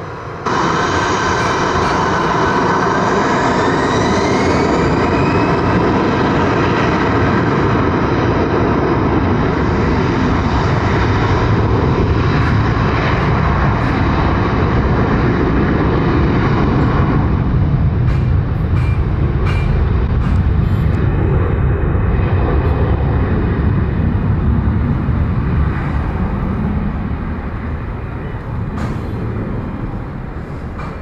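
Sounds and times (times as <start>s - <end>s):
jet engines whining: 0.0s - 31.0s
low rumble: 0.0s - 31.0s.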